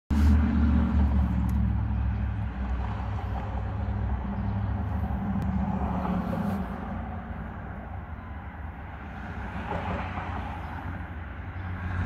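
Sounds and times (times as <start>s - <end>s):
vehicle engine rumble: 0.1s - 12.0s.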